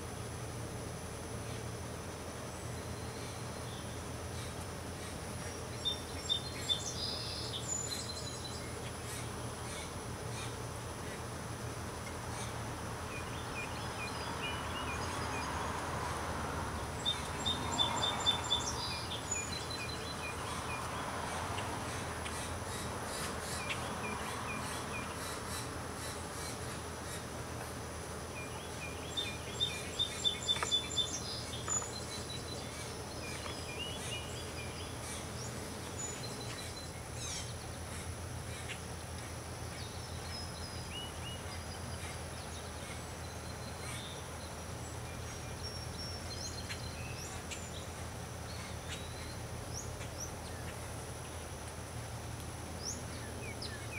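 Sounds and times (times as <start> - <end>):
songbirds calling: 0.6 - 53.9.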